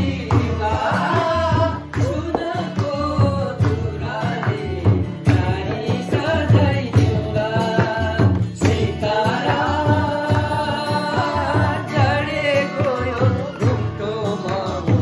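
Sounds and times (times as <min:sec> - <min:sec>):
acoustic guitar strumming: 0:00.0 - 0:15.0
hand drums: 0:00.0 - 0:15.0
men singing: 0:00.0 - 0:15.0.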